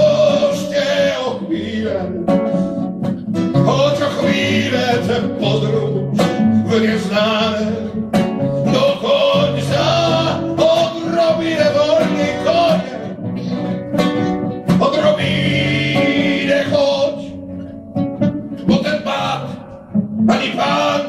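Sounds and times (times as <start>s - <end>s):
man singing: 0.0s - 2.8s, 3.5s - 13.7s, 14.7s - 17.4s, 18.6s - 21.0s
acoustic guitars strumming: 0.0s - 21.0s.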